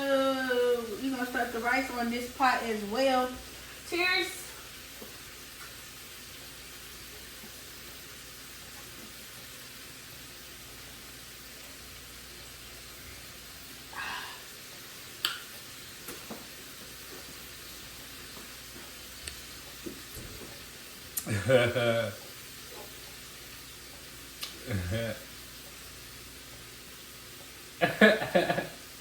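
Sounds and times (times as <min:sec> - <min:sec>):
steak sizzling in a pan: 0:00.0 - 0:29.0.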